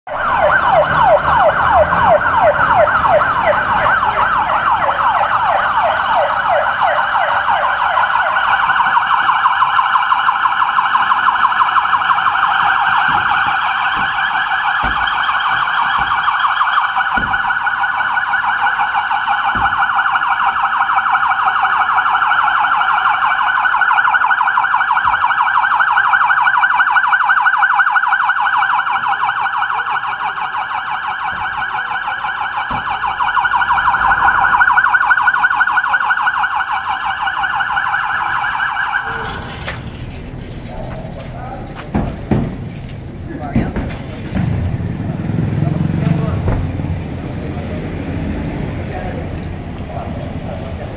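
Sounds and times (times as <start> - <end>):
police siren yelping: 0.1 - 42.4.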